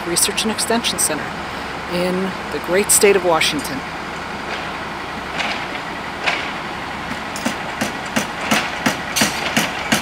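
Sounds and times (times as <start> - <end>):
machinery engine idling: 0.0 - 10.0.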